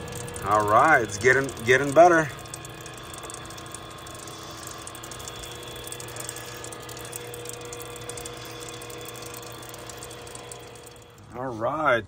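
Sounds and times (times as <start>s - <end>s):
gutter machine humming and ticking: 0.0s - 12.0s.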